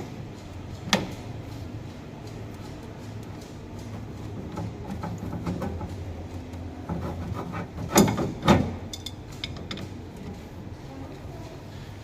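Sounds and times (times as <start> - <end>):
clicks and knocks of handling: 0.0 - 10.5.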